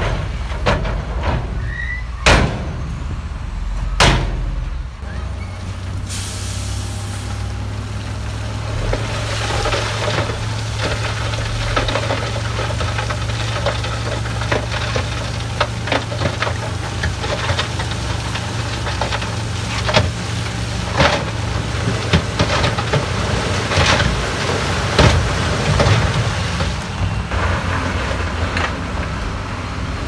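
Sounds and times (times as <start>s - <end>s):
dump truck engine running: 0.0s - 30.0s.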